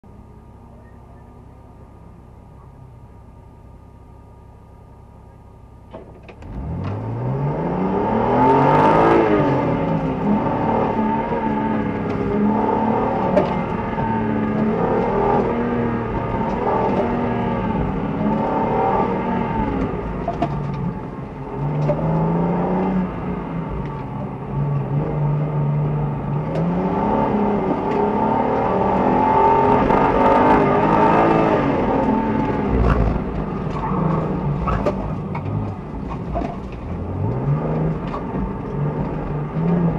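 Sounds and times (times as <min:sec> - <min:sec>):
car engine revving: 0:05.9 - 0:39.9.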